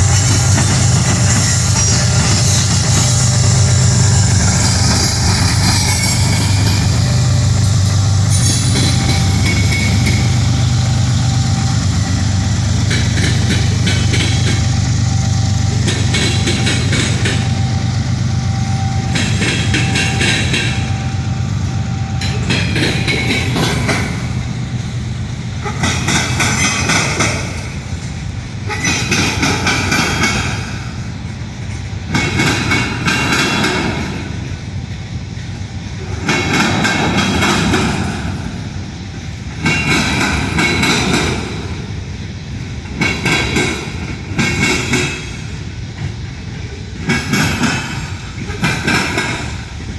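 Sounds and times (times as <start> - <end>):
wheels clattering over rail joints: 0.0 - 21.0, 22.2 - 38.7, 39.3 - 41.9, 42.6 - 49.9
train wheels rumbling on rails: 0.0 - 49.9.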